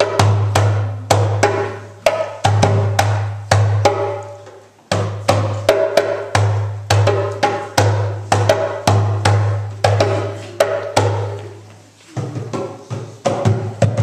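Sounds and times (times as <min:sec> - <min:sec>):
djembe hand drums: 0:00.0 - 0:14.0.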